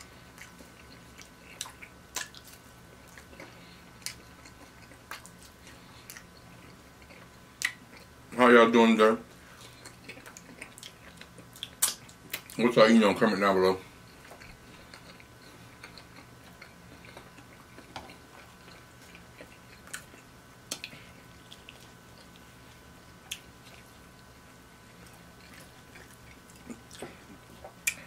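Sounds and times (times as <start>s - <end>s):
soft chewing: 0.0s - 8.4s, 9.2s - 12.7s, 13.7s - 28.0s
faint room hum: 0.0s - 28.0s.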